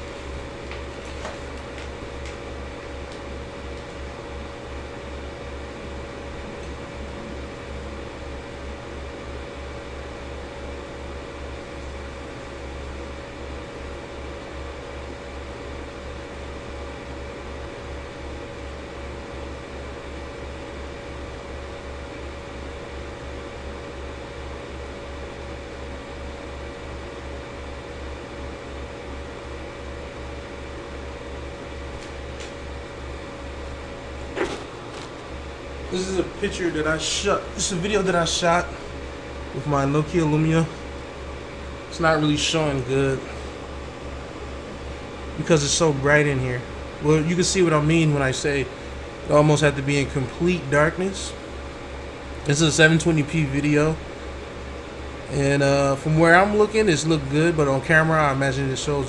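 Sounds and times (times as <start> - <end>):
projector cooling fan hum: 0.0 - 59.0.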